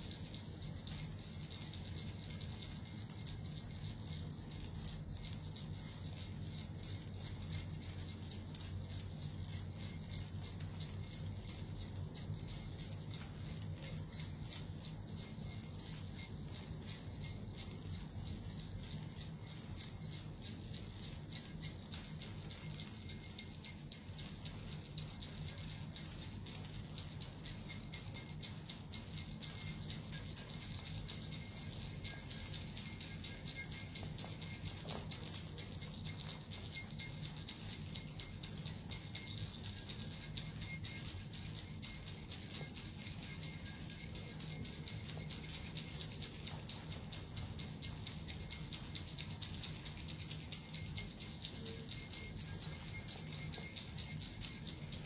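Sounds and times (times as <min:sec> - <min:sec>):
bells and metal rattle jingling: 0:00.0 - 0:55.0.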